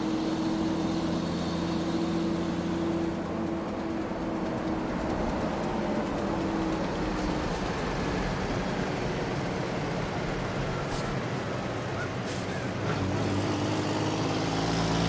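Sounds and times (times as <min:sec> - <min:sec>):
truck engine rumbling: 0:02.3 - 0:15.0.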